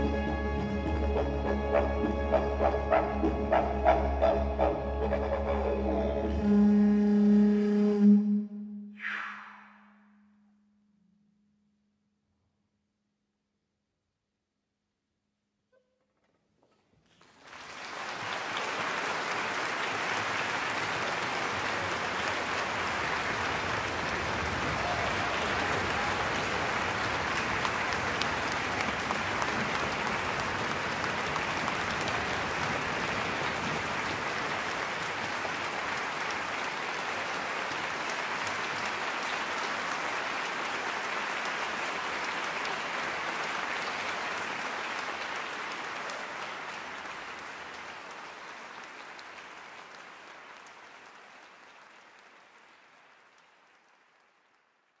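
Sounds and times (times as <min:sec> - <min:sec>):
audience applauding: 0:00.0 - 0:06.2, 0:17.0 - 0:55.0.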